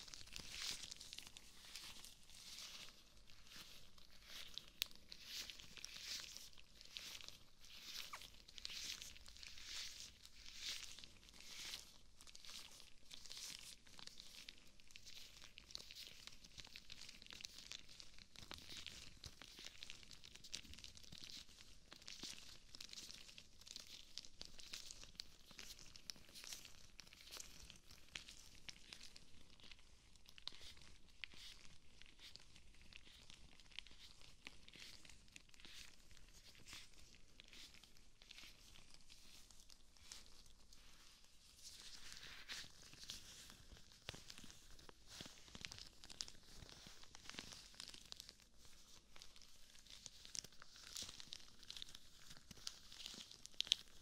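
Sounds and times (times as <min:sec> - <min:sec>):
rubber gloves rustling and squeaking: 0:00.0 - 0:54.0.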